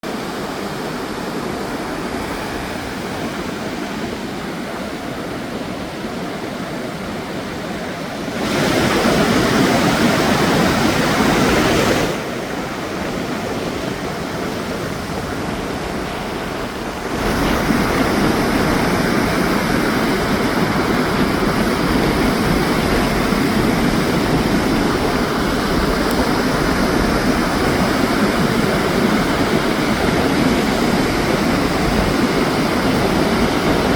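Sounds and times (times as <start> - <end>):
sea surf washing onto beach: 0.0 - 33.9.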